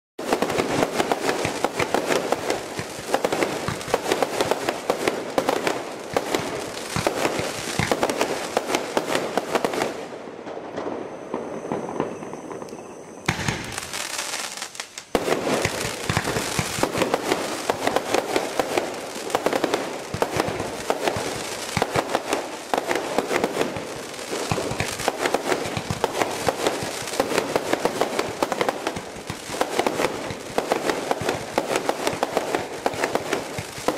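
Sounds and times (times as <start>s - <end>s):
fireworks launching and bursting: 0.2s - 33.9s.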